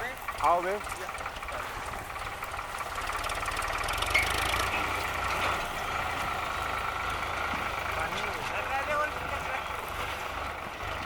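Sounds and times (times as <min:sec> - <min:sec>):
tractor engine driving thresher: 0:00.0 - 0:11.0.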